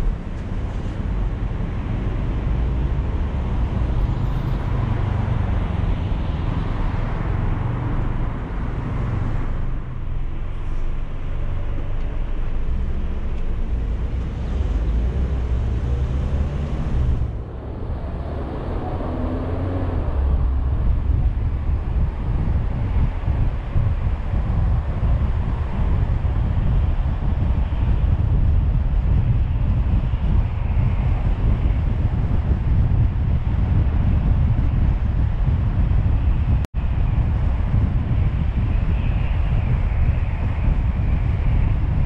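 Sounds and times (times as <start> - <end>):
car engine and tyre rumble: 0.0 - 42.0
wind and road hiss: 0.0 - 42.0.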